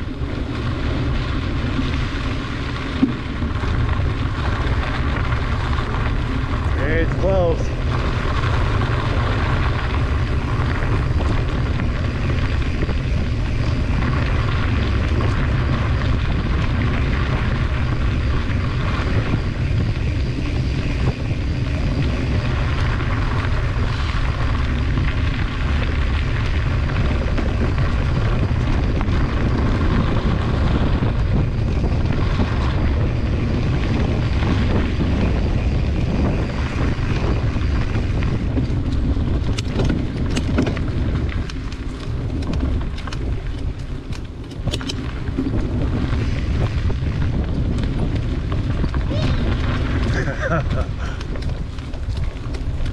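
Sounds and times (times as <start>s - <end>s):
bike tyres rolling on gravel: 0.0s - 52.9s
wind rumble on microphone: 0.0s - 52.9s.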